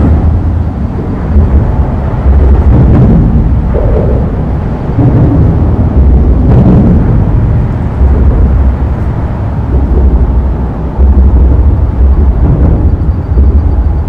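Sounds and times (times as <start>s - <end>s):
traffic rumbling over bridge: 0.0s - 14.0s.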